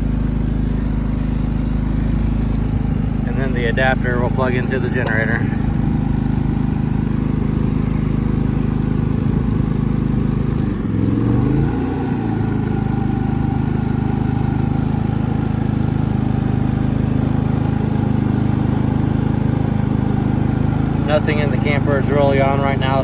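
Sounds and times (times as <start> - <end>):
generator humming: 0.0 - 23.0.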